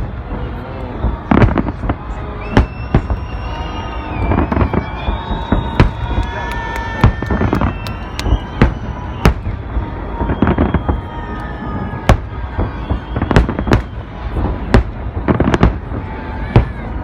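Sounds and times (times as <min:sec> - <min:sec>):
continuous rumble: 0:00.0 - 0:17.0
fireworks bangs: 0:00.0 - 0:17.0.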